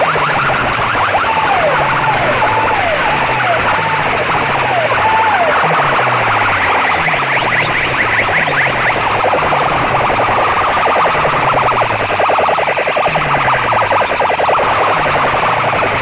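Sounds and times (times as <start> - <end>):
electronic siren through loudspeakers: 0.0 - 16.0.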